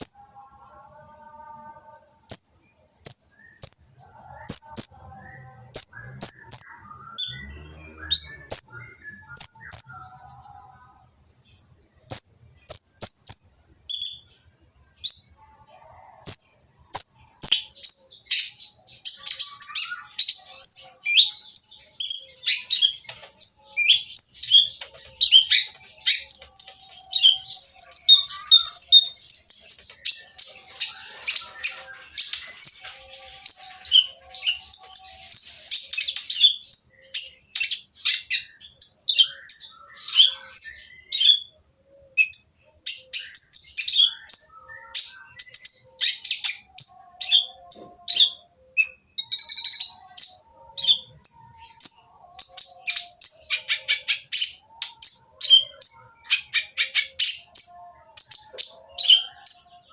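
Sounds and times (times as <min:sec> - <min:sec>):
bird chirping and trilling: 0:00.0 - 0:59.9.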